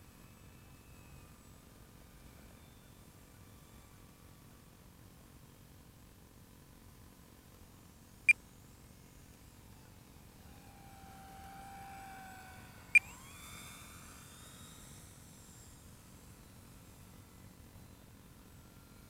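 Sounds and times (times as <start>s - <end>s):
model plane electric motor whine: 0.0s - 6.2s, 8.5s - 19.0s.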